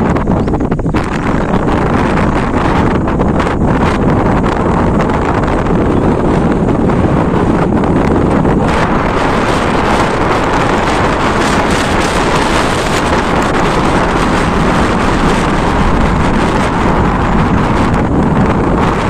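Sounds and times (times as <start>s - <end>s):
loud steady rushing noise: 0.0s - 19.0s.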